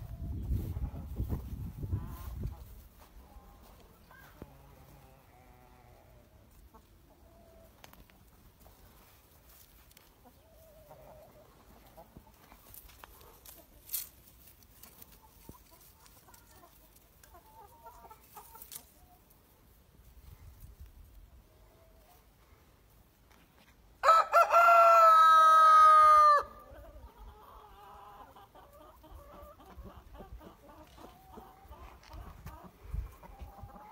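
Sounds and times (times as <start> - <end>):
chickens clucking: 0.0 - 23.9, 24.8 - 33.9.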